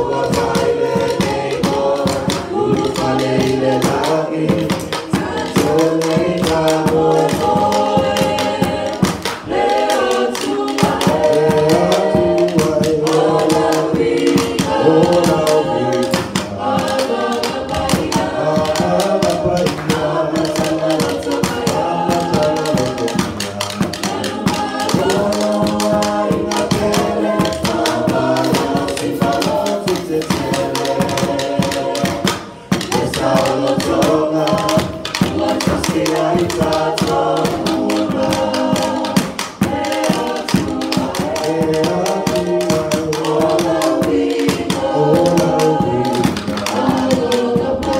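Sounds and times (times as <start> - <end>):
group singing in harmony: 0.0 - 47.9.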